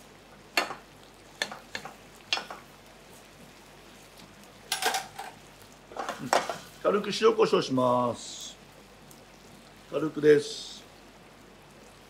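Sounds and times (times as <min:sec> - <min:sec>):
sauce simmering and sizzling: 0:00.0 - 0:12.0.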